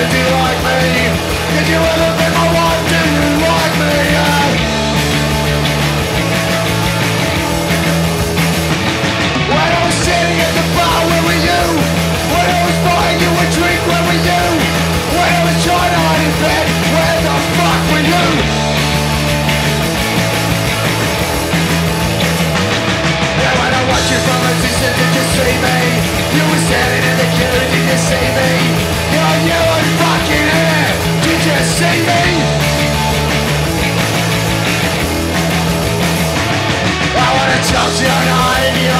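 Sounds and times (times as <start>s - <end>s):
bass guitar: 0.0s - 38.9s
drums: 0.0s - 38.9s
electric guitars: 0.0s - 38.9s.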